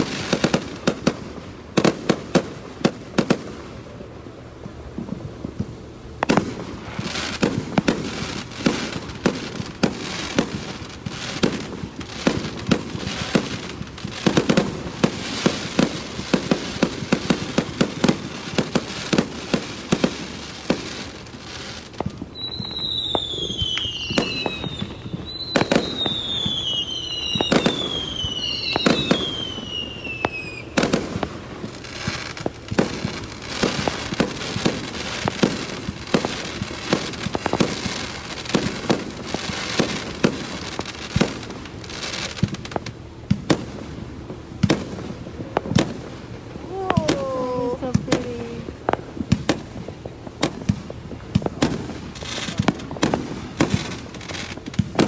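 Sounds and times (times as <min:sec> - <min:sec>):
fireworks bangs and crackles: 0:00.0 - 0:55.0
falling firework whistles: 0:06.2 - 0:43.6, 0:46.6 - 0:55.0.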